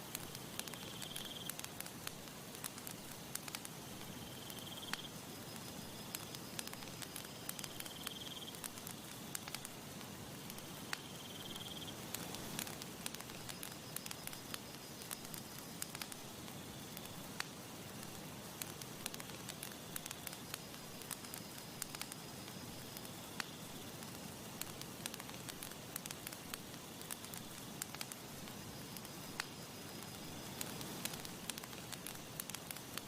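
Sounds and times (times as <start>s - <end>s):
campfire hissing: 0.0s - 33.0s
wood crackling and popping: 0.0s - 33.0s.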